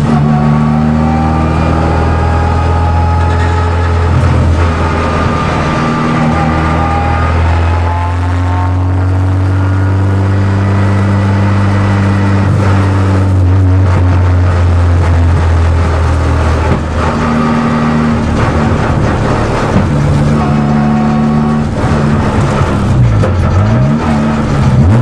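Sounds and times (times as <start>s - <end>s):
race car engine drone: 0.0s - 25.0s.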